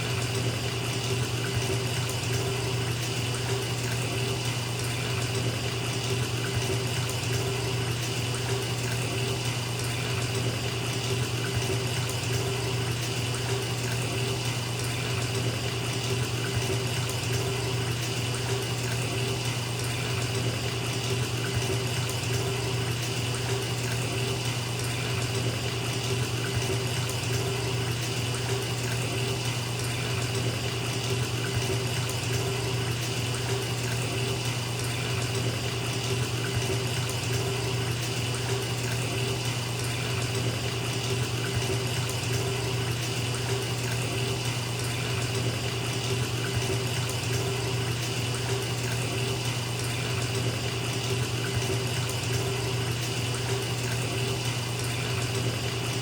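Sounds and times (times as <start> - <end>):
water pouring into bathtub: 0.0 - 56.0.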